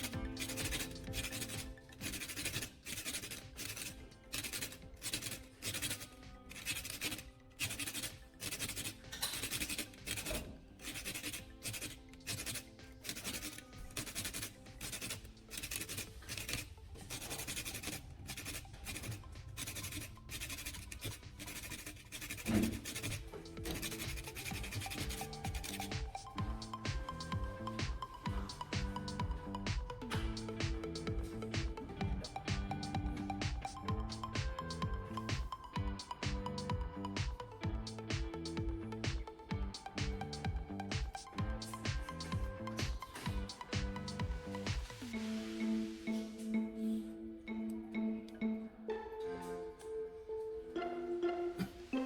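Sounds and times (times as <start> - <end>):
rhythmic scraping strokes: 0.0 - 46.8
quiet background music: 0.0 - 52.0.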